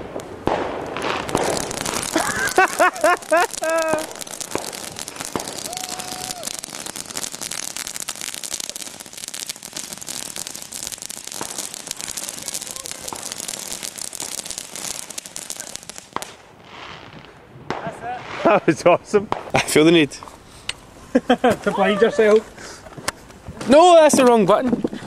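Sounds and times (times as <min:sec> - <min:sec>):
firework crackling: 0:00.0 - 0:25.0.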